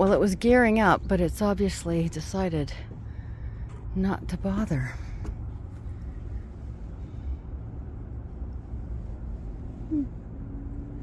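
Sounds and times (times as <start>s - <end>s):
distant engines rumbling: 0.0s - 11.0s.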